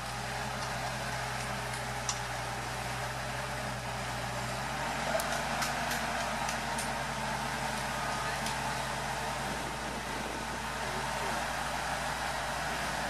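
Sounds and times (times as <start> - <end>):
forklift engine humming: 0.0 - 13.0.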